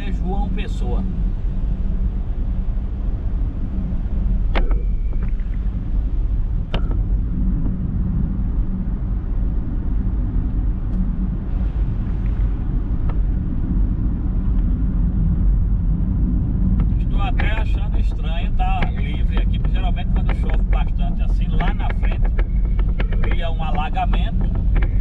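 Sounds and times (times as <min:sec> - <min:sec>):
car driving on wet road: 0:00.0 - 0:25.0.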